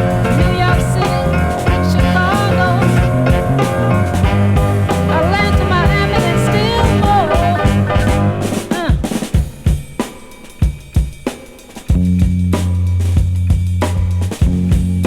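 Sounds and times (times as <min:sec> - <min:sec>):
funk soul band music: 0:00.0 - 0:15.0.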